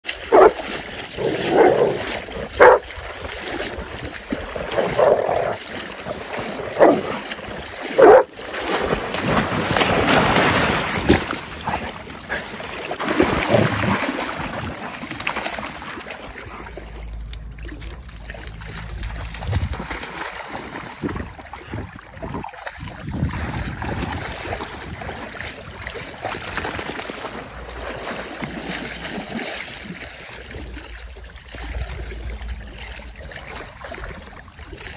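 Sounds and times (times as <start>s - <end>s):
dogs splashing in water: 0.0s - 34.9s.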